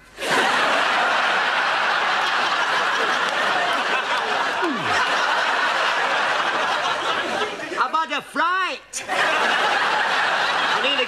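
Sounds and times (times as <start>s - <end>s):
studio audience laughing: 0.2s - 8.0s, 9.0s - 11.0s.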